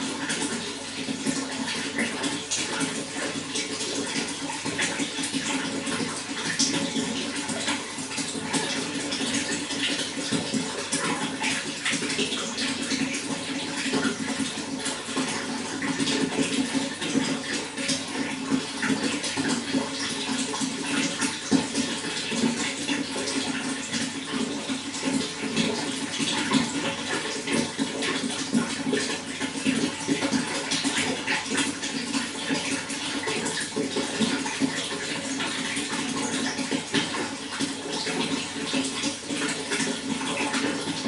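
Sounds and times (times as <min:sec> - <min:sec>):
running water splashing: 0:00.0 - 0:41.0.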